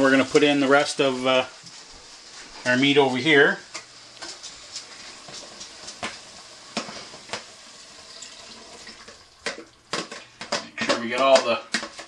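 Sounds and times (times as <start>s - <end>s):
meat sizzling in pot: 0.0s - 12.0s.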